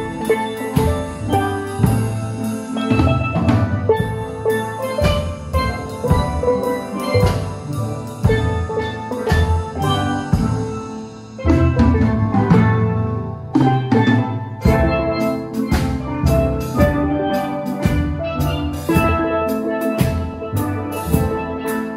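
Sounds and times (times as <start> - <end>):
drum kit beat: 0.0 - 21.9
steel band playing: 0.0 - 21.9.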